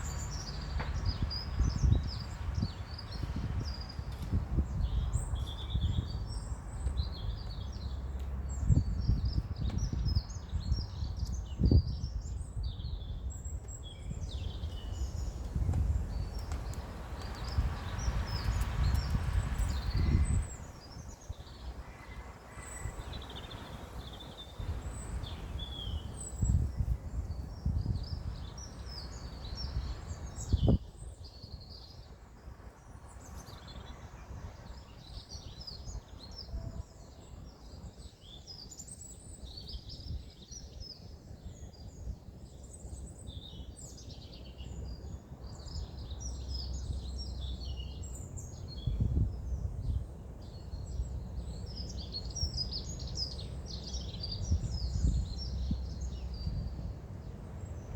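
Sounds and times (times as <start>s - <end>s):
songbirds singing and chirping: 0.0s - 57.9s.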